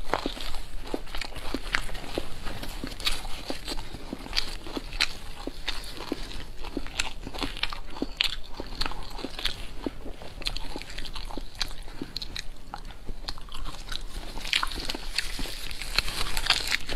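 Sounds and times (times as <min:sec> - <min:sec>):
chewing crunches: 0:00.0 - 0:16.9.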